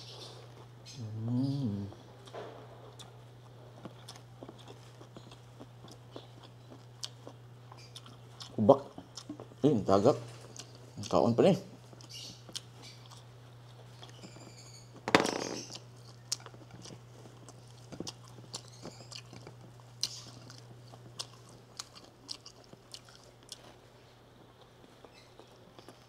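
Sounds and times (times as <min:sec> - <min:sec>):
person chewing food: 0:00.0 - 0:01.0, 0:01.7 - 0:09.6, 0:10.3 - 0:14.5, 0:15.6 - 0:26.0.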